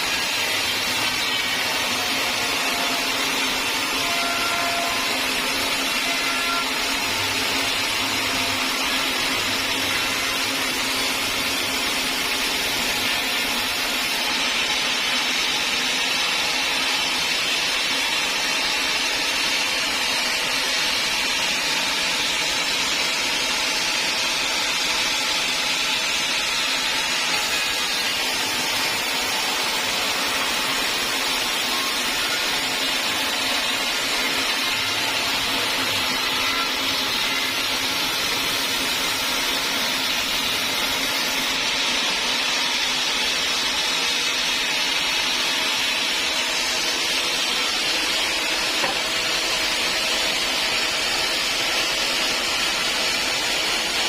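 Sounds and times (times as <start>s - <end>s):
sawmill machinery whirring: 0.0s - 54.0s.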